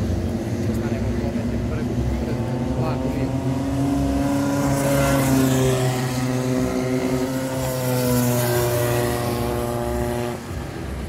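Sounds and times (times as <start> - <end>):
kart engines buzzing: 0.0 - 11.0.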